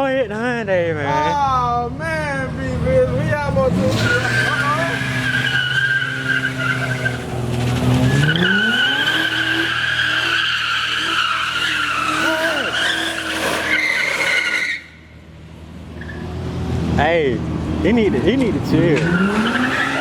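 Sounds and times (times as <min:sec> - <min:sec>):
car engine revving: 0:02.2 - 0:20.0
car tyres squealing: 0:02.6 - 0:16.4, 0:17.5 - 0:20.0.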